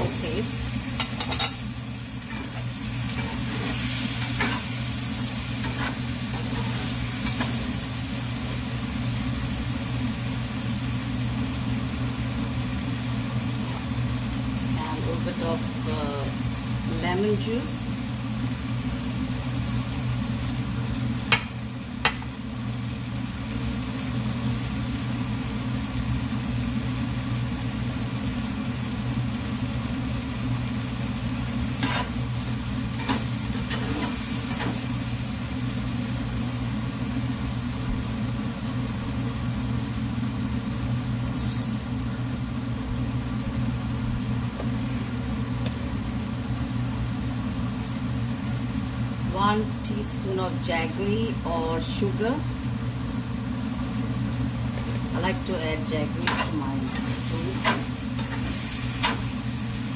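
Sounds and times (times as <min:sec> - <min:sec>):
food sizzling in a frying pan: 0:00.0 - 0:59.9
steady low hum: 0:00.0 - 0:59.9.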